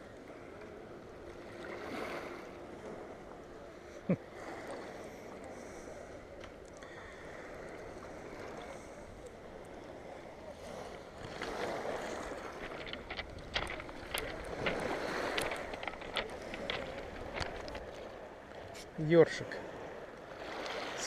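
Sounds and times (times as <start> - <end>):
sea waves on rocky shore: 0.0 - 21.0.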